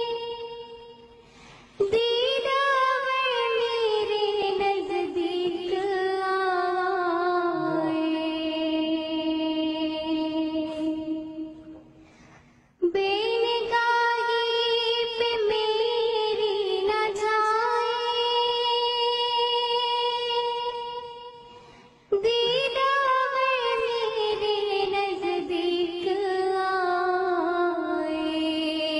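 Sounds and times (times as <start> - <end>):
girl singing: 0.0 - 1.2, 1.8 - 11.8, 12.8 - 28.9.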